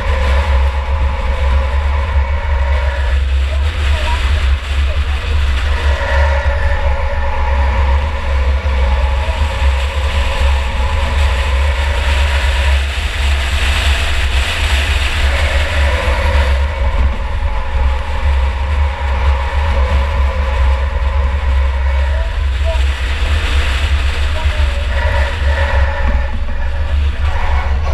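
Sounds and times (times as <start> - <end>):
car engine running hard: 0.0 - 27.9.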